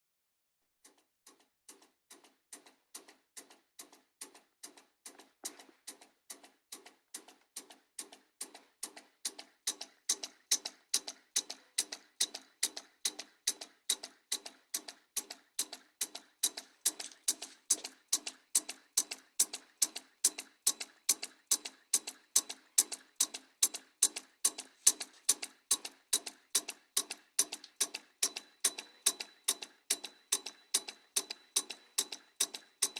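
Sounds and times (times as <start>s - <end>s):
small engine rhythmic clicking: 0.8s - 32.9s.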